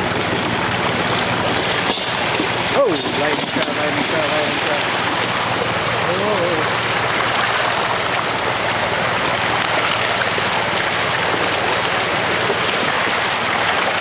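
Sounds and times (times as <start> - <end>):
water rushing down a slide: 0.0 - 14.0.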